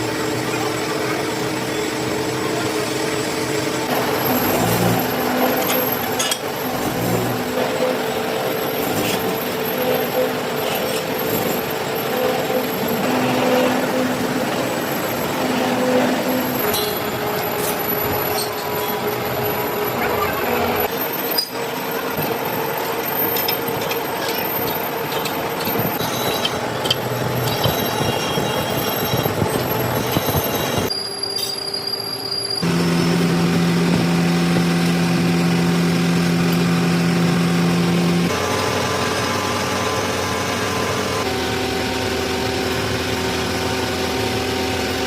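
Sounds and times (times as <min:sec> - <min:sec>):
metalworking machinery cutting steel: 0:00.0 - 0:45.0.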